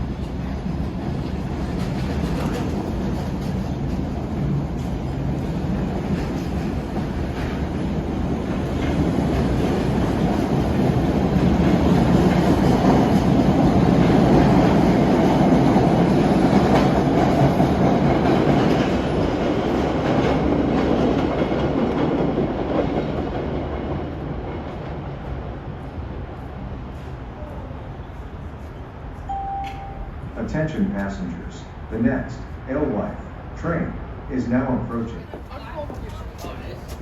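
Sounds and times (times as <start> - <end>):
train passing through station: 0.0 - 37.0.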